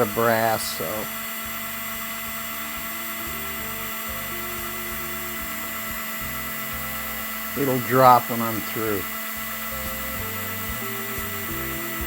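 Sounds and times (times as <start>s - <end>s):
electric drill boring into lock: 0.0s - 12.0s.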